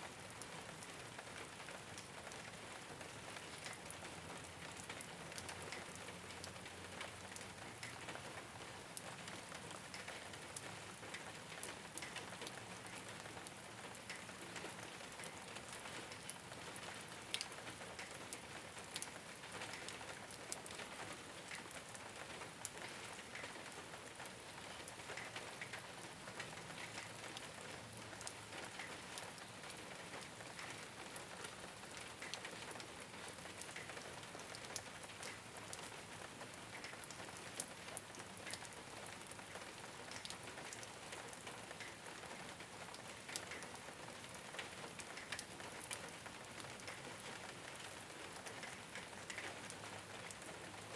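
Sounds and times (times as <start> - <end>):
rain on a rooftop: 0.0 - 50.9.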